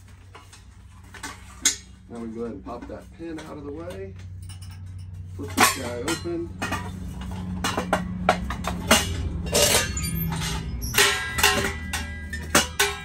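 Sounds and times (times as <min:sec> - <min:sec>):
metal clanks and clinks: 0:00.1 - 0:13.0.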